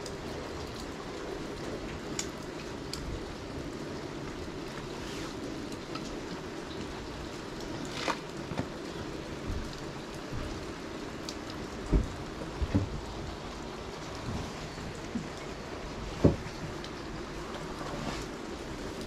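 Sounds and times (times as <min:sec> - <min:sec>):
water dripping: 0:00.0 - 0:17.8
rain hissing: 0:00.0 - 0:19.0.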